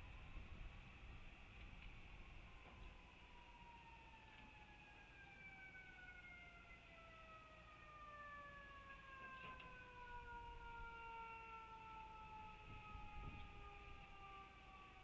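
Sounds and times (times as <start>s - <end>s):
distant siren winding down: 1.6s - 15.0s.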